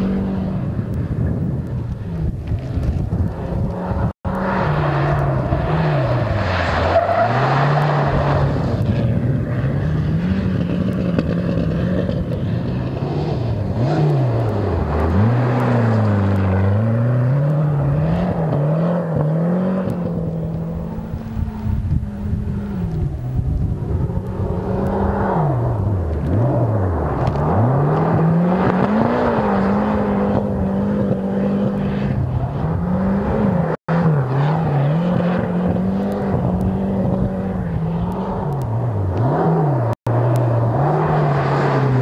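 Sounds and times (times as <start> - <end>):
car driving on gravel: 0.0 - 42.0
rally car engine revving: 0.0 - 42.0.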